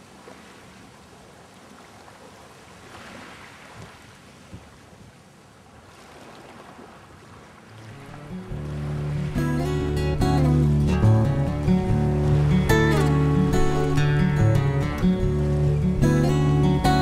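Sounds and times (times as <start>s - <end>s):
wind by the sea: 0.0s - 17.0s.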